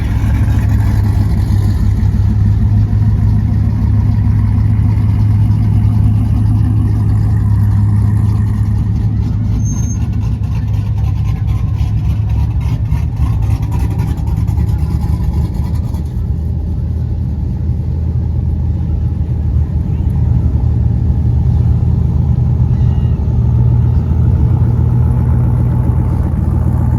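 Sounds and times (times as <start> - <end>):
pickup truck exhaust rumble: 0.0 - 26.9.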